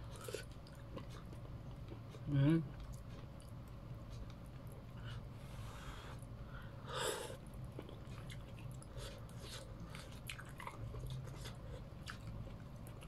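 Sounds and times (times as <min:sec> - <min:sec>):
person chewing: 0:00.0 - 0:05.3, 0:07.3 - 0:13.0.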